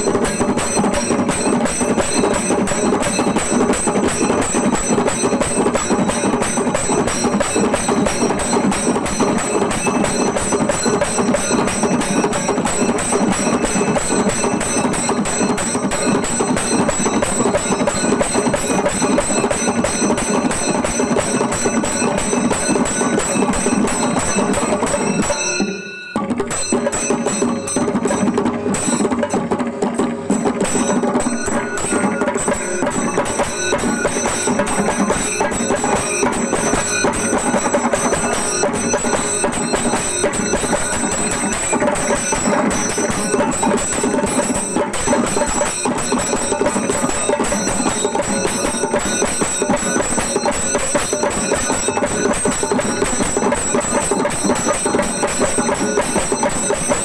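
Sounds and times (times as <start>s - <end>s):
drums in fast dense rhythm: 0.0s - 57.0s
steady high ringing: 0.0s - 57.0s.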